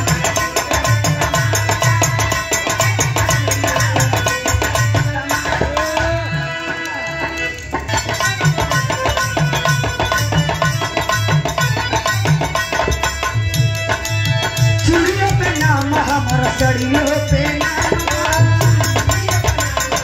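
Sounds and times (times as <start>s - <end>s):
hand drum rhythm: 0.0s - 20.0s.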